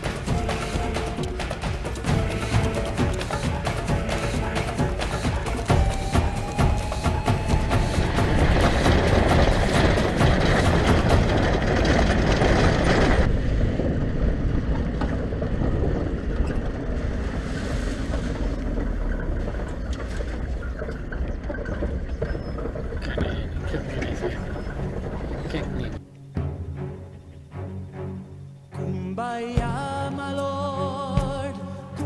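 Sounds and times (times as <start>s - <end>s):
tyres rolling over gravel: 0.0s - 26.0s
wind noise: 0.0s - 26.0s.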